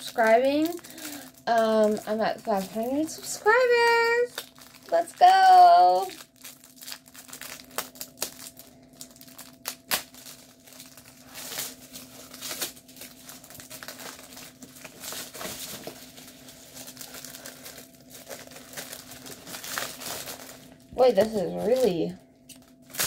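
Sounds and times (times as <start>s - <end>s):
faint steady hum: 0.0s - 23.0s
packaging crinkling: 0.0s - 23.0s.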